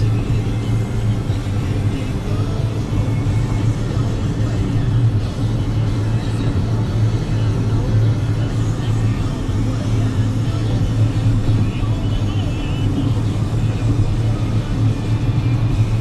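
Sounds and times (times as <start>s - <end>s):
vehicle engine drone from inside: 0.0s - 16.0s.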